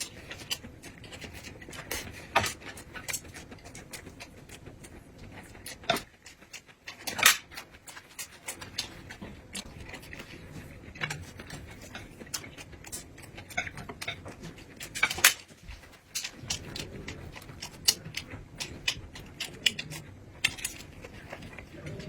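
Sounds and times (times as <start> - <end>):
chewing clicks and smacks: 0.0 - 22.0.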